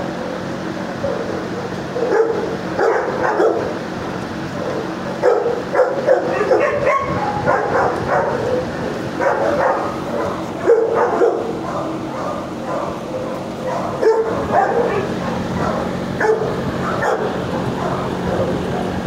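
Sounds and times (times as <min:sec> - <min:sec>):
steady background hum: 0:00.0 - 0:19.0
dogs barking: 0:00.2 - 0:19.0.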